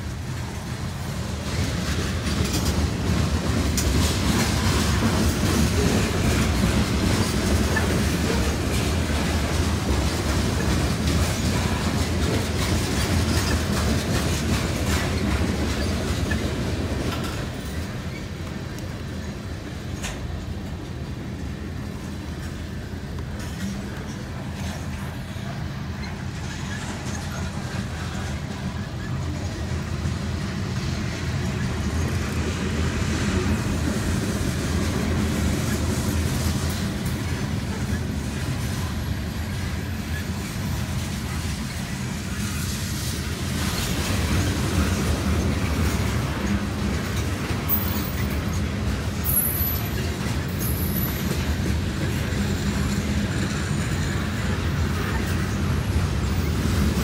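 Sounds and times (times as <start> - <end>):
freight train wheels rumbling on rails: 0.0 - 57.0.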